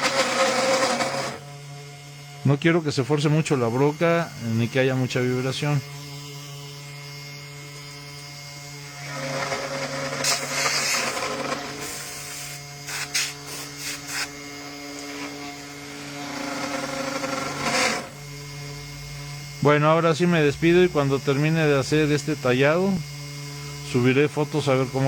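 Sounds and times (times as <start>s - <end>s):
router bit cutting wood: 0.0s - 25.0s
router motor humming: 0.0s - 25.0s.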